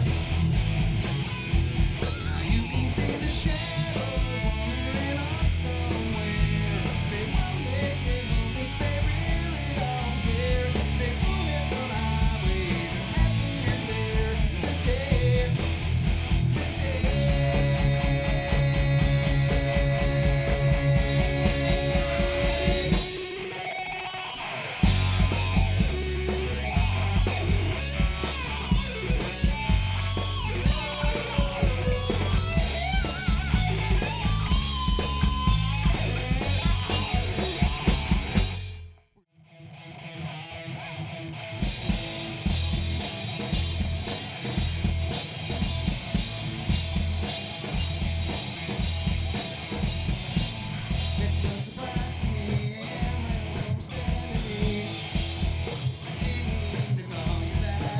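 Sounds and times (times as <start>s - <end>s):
live rock band playing: 0.0s - 38.9s, 40.2s - 57.9s.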